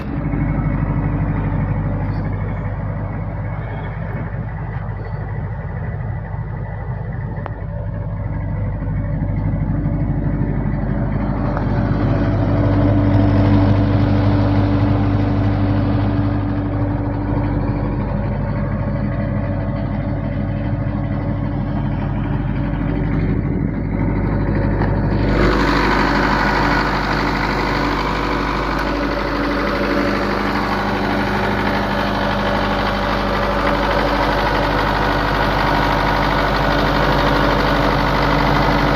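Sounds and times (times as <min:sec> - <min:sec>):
diesel generator running: 0:00.0 - 0:38.9.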